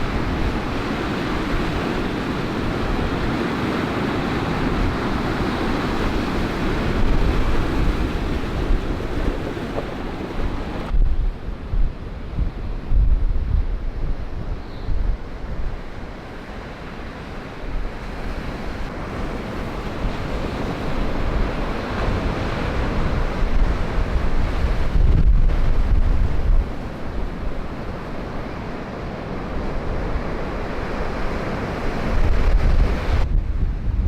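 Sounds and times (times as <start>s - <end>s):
storm waves crashing on shore: 0.0s - 34.0s
wind buffeting microphone: 0.0s - 34.0s.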